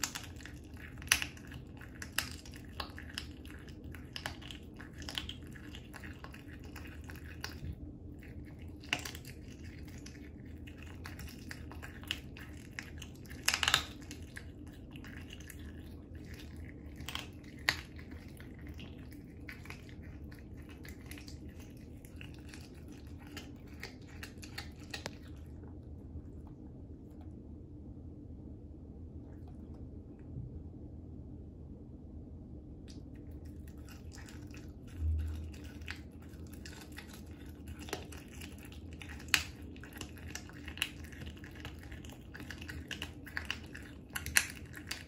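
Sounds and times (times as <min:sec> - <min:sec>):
cat chewing bones wet crunches: 0:00.0 - 0:27.3, 0:32.9 - 0:45.0.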